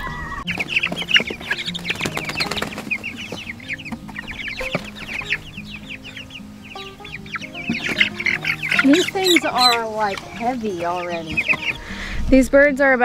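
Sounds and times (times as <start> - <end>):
chicks peeping: 0.0 - 12.2.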